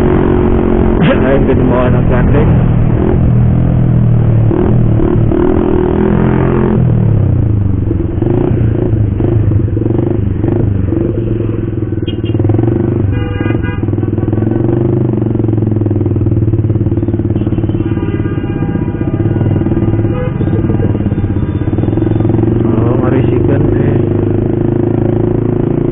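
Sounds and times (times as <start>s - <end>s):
loud motorcycle engine: 0.0s - 25.9s.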